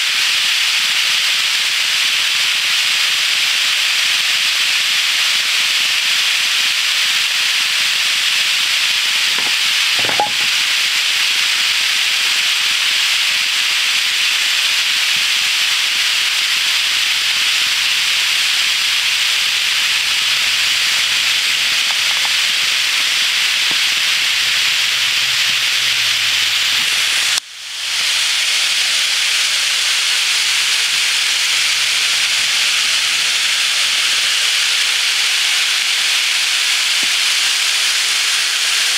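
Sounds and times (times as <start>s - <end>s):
model train wheels hissing on rails: 0.0s - 38.9s.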